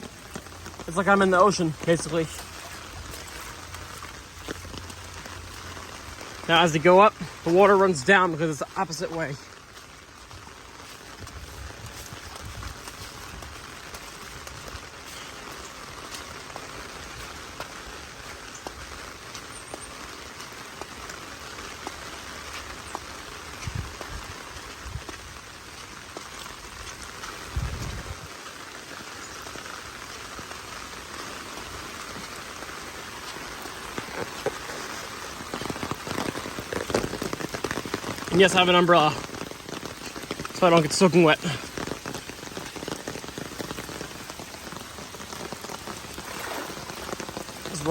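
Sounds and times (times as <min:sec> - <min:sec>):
heavy rain: 0:00.0 - 0:47.9
raindrops ticking on umbrella: 0:00.0 - 0:47.9.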